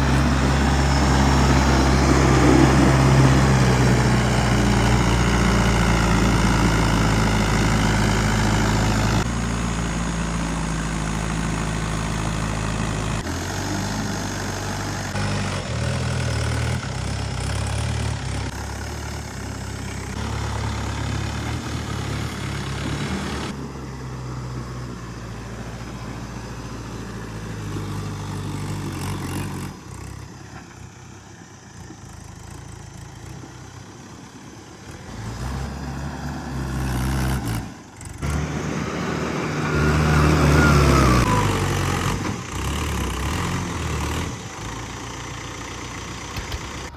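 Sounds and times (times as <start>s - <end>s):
diesel tractor engine running: 0.0s - 46.9s.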